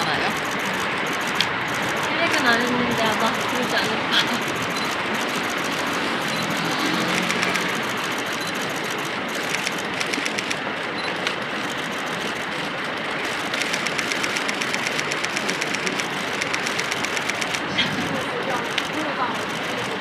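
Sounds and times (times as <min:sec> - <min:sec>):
outdoor street background noise: 0:00.0 - 0:20.0
rapid even clicking: 0:00.0 - 0:20.0.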